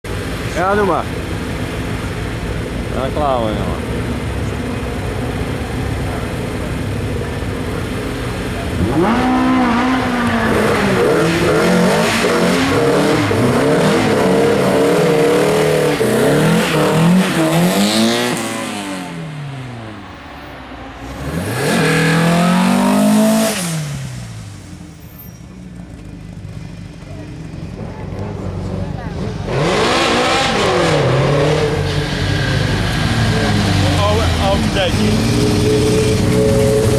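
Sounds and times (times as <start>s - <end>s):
race car engines revving: 0.1s - 36.9s.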